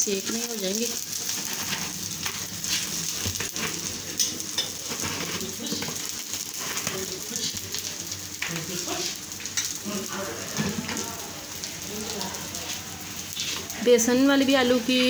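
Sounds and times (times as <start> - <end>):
patties sizzling on a hot pan: 0.0 - 15.0.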